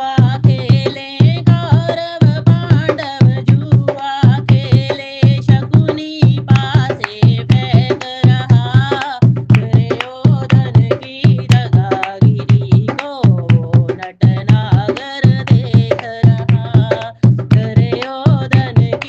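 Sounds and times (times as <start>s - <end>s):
hand drum beat: 0.0s - 19.0s.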